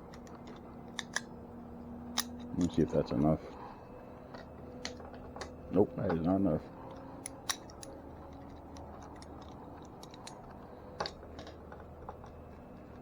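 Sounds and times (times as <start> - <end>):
hand tools clicking and tapping: 0.0 - 1.4, 2.1 - 2.9, 4.2 - 13.0.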